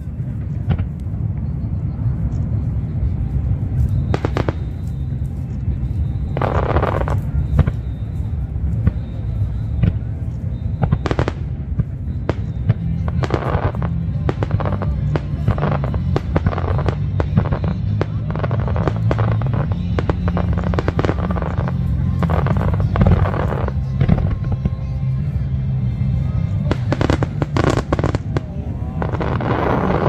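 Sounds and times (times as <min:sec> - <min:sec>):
fireworks bangs: 0:00.2 - 0:25.4, 0:26.1 - 0:30.0
music playing: 0:02.3 - 0:30.0.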